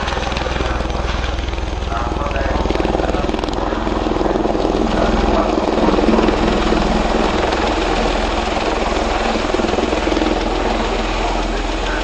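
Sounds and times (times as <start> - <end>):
tiltrotor aircraft hovering: 0.0 - 12.0.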